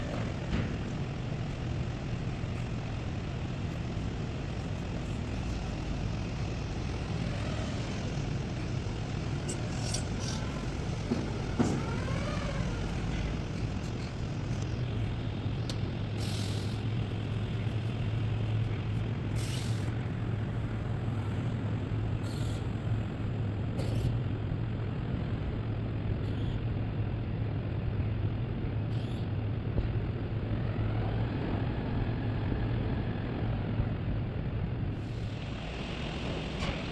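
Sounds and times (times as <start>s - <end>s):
low machine hum: 0.0s - 36.9s.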